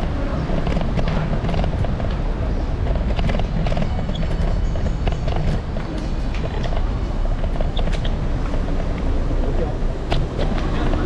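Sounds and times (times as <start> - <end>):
low street rumble: 0.0 - 11.0.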